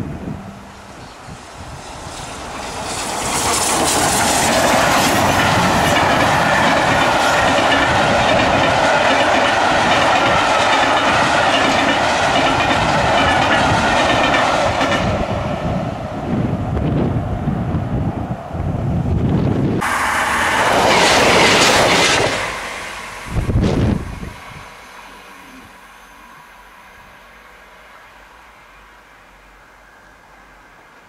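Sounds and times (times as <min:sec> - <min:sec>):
train passing on rails: 0:00.0 - 0:31.0.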